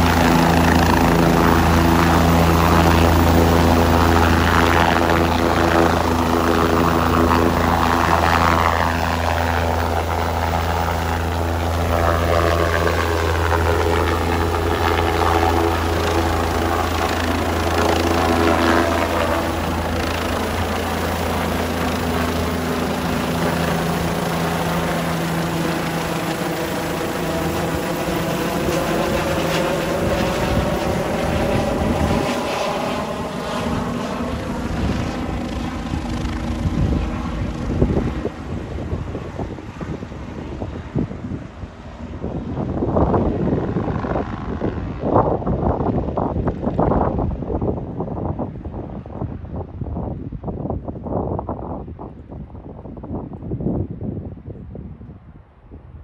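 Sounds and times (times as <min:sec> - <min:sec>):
helicopter rotor and engine: 0:00.0 - 0:56.0
wind buffeting microphone: 0:00.0 - 0:56.0.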